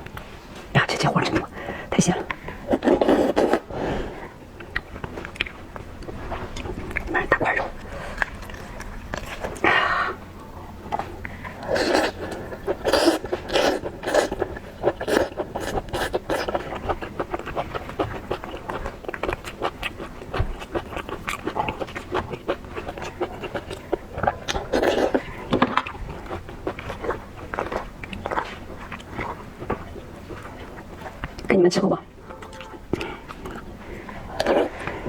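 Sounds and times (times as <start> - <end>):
wet chewing and smacking: 0.0 - 35.0.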